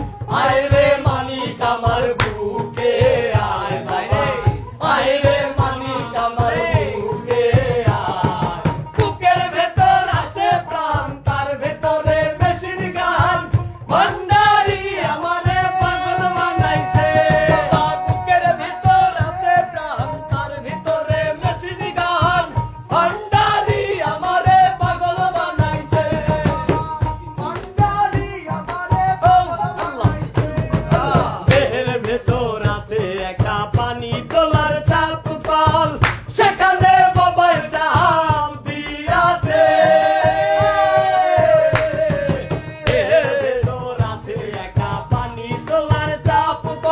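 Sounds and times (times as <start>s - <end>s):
low drum beat: 0.0s - 46.9s
men singing: 0.0s - 46.9s.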